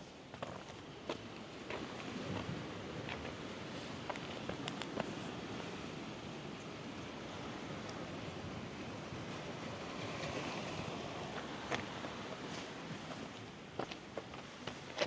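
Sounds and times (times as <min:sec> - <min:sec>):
wind: 0:00.0 - 0:15.0
sea waves washing: 0:02.0 - 0:15.0.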